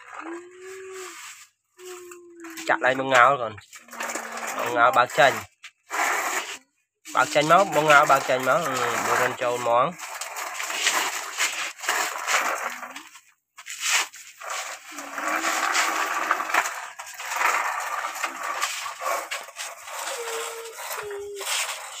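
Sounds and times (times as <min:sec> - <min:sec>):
sand rustling and scraping: 0:00.5 - 0:22.0.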